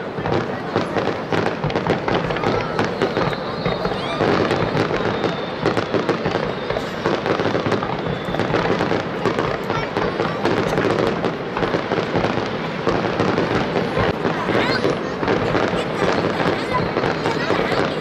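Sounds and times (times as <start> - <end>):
fireworks bursting: 0.0 - 18.0
fireworks crackling: 0.0 - 18.0.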